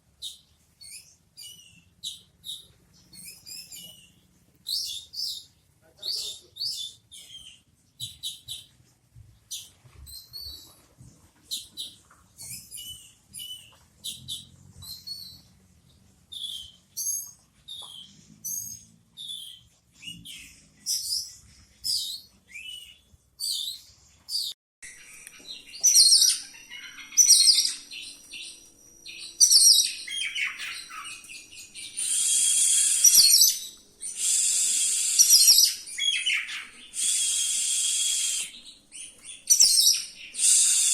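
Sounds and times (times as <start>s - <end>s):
rolling bird song: 0.0s - 40.9s
songbird whistles and chirps: 0.2s - 8.8s, 9.5s - 10.8s, 11.5s - 15.6s, 16.3s - 40.9s.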